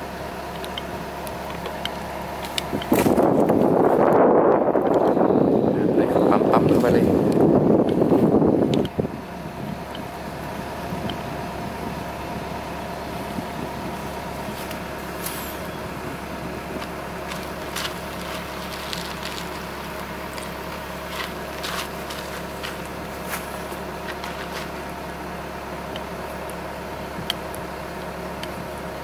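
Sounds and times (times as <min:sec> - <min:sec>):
excavator engine idling: 0:00.0 - 0:29.0.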